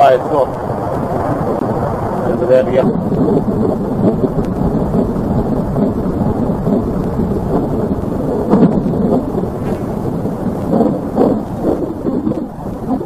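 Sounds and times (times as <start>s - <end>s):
low rumbling storm-like roar: 0.0s - 13.0s.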